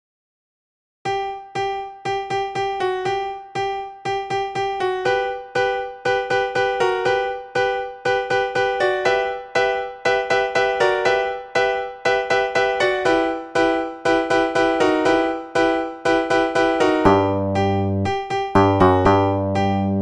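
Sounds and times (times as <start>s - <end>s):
electric piano notes: 1.1s - 20.0s.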